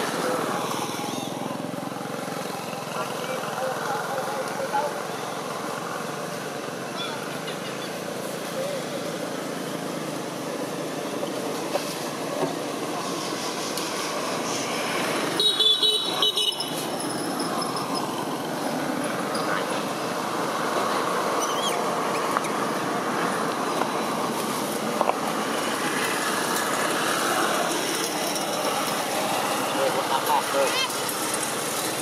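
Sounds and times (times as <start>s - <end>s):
traffic engines: 0.0s - 32.0s.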